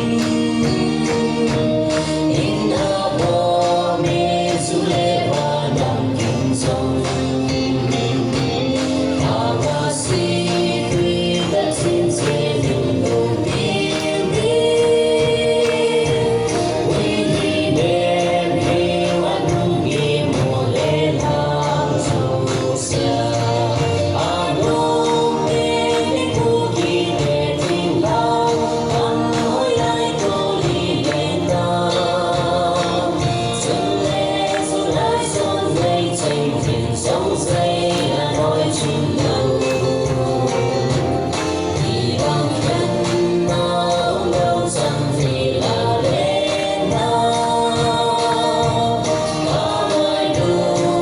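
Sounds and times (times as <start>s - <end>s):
group singing with music: 0.0s - 51.0s.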